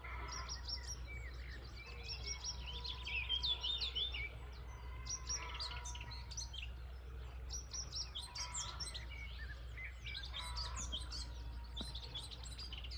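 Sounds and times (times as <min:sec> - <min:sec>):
songbirds chirping: 0:00.0 - 0:12.9.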